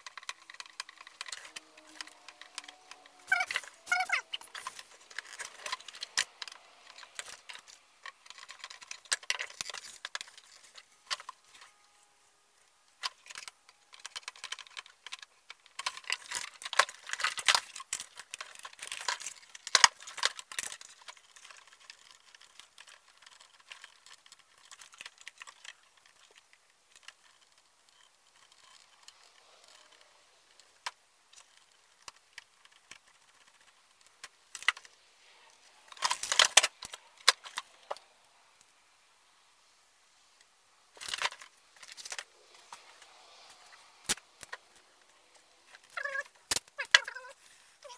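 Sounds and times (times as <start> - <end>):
plastic parts and tools clicking: 0.0 - 39.0, 39.6 - 47.9.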